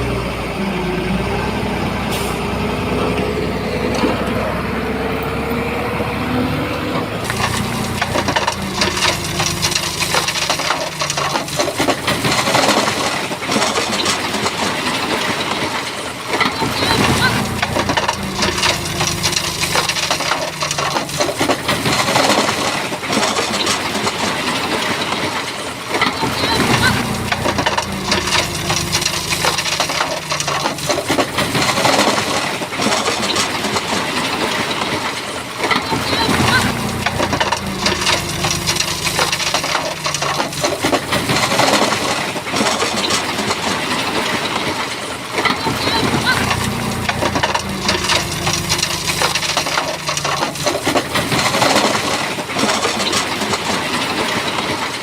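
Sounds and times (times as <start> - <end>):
bulldozer diesel engine: 0.0 - 55.0
rocks clattering and grinding: 6.8 - 55.0.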